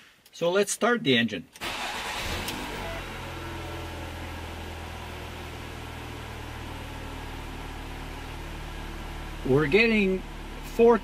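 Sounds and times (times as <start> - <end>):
car engine idling: 1.6 - 11.0.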